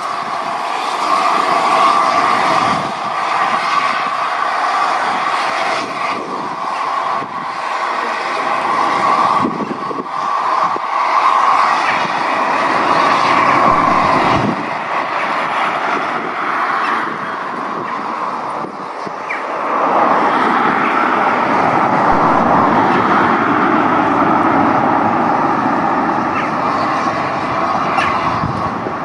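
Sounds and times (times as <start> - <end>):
steam locomotive running: 0.0 - 28.8
road traffic passing: 0.0 - 29.0.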